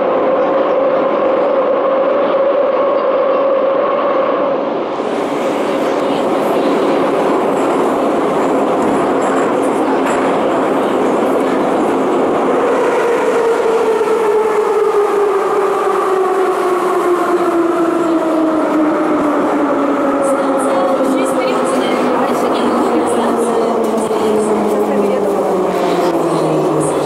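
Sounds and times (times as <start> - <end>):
wheel and tunnel rumble: 0.0 - 27.0.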